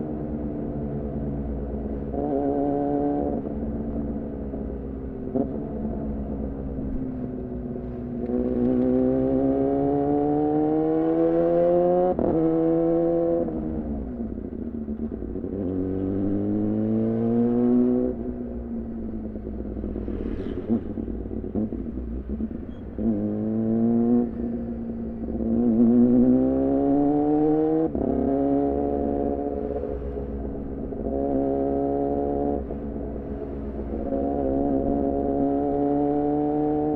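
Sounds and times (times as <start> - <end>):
motorcycle engine revving through gears: 0.0 - 36.9.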